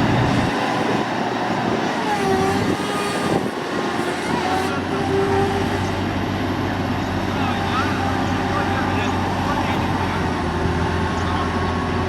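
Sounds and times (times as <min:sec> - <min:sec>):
vehicle engine running under load: 0:00.0 - 0:12.0.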